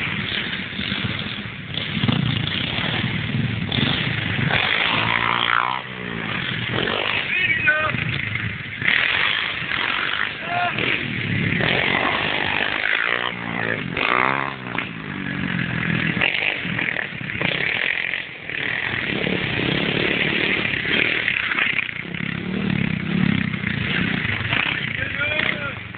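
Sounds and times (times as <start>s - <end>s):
pit bike engine revving: 0.0s - 25.9s.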